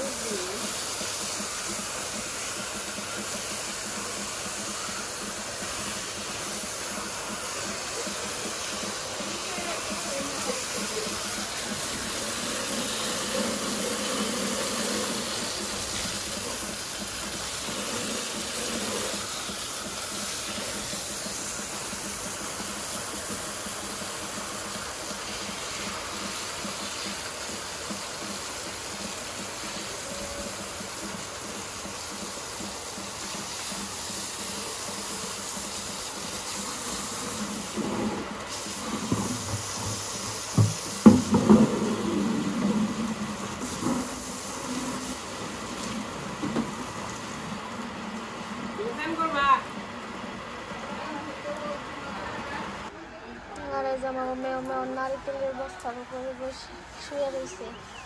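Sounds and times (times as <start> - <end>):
water stream into plastic bucket: 0.0 - 51.0
hose spraying water: 0.0 - 53.0.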